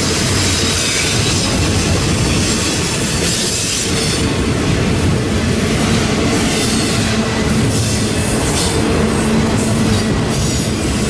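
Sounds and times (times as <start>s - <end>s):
steel wheels rattling on rails: 0.0s - 11.0s.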